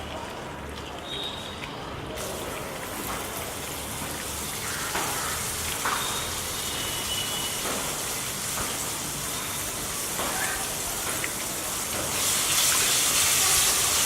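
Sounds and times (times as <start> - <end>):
food sizzling in hot oil: 2.2 - 14.0.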